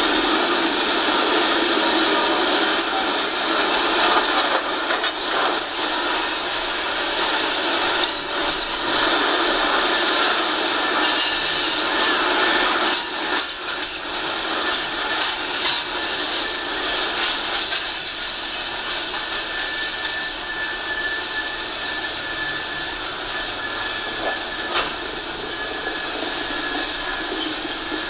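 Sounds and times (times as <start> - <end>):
train wheel clacks: 0.0 - 28.0
train wheels rattling on rails: 0.0 - 28.0.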